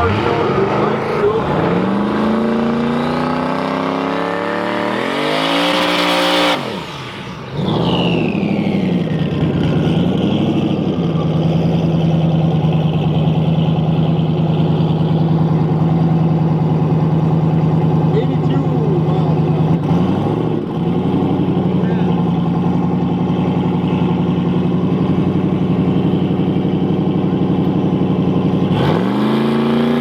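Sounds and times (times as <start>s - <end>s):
racing car engine revving: 0.0s - 13.8s, 14.5s - 30.0s.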